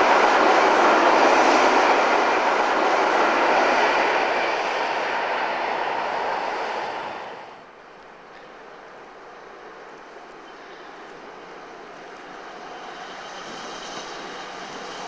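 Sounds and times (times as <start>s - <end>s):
train wheels rushing on track: 0.0s - 15.0s.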